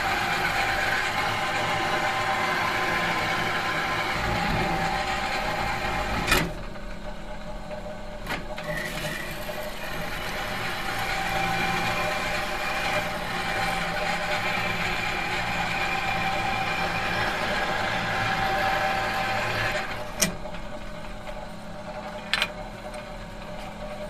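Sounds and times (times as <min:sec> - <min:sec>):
metal machine humming: 0:00.0 - 0:24.0.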